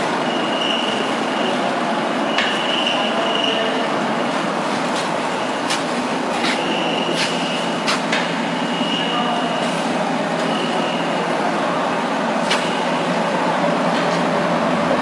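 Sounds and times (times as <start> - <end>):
production line machinery running: 0.0 - 15.0.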